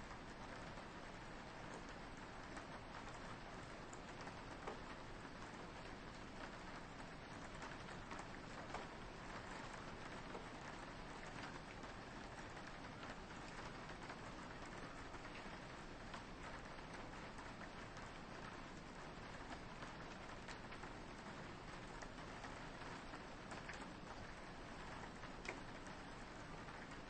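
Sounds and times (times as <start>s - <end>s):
soft rain on a window: 0.0s - 27.0s.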